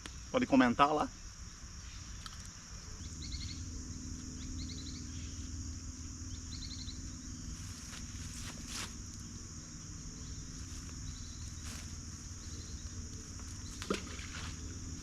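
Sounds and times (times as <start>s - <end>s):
high-pitched insect drone: 0.0s - 15.0s
insect chirps: 0.0s - 15.0s
low steady rumble: 1.2s - 15.0s.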